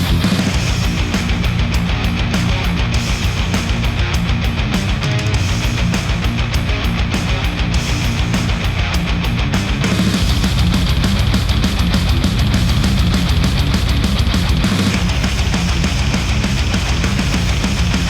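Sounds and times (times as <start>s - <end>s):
heavy rock music: 0.0s - 18.0s.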